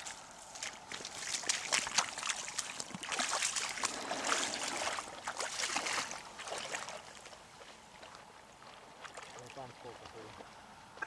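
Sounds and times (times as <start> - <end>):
footsteps wading through water: 0.0 - 11.0.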